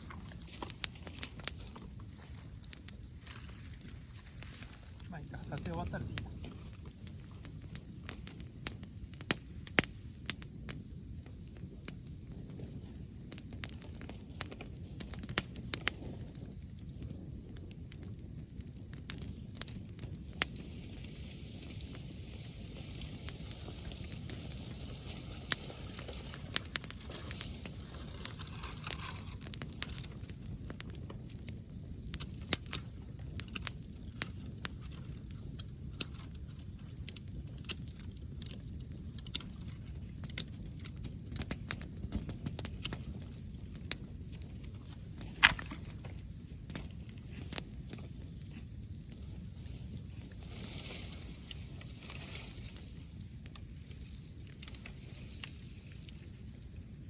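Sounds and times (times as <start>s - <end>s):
bonfire crackling and popping: 0.0s - 57.0s.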